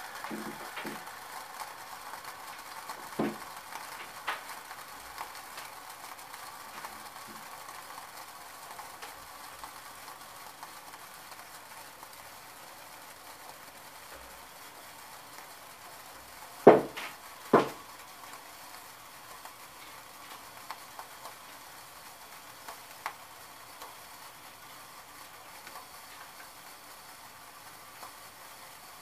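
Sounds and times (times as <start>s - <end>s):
faint hiss of heating water: 0.0s - 29.0s
sharp ticks from pan: 0.0s - 29.0s.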